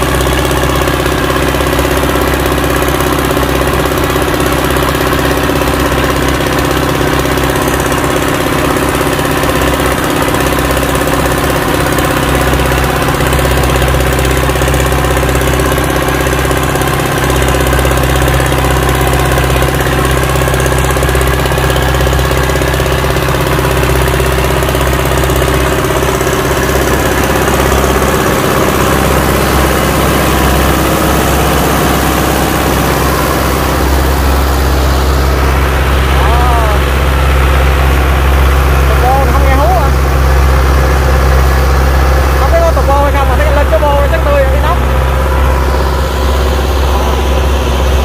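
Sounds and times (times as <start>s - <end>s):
tractor diesel engine under load: 0.0s - 48.0s.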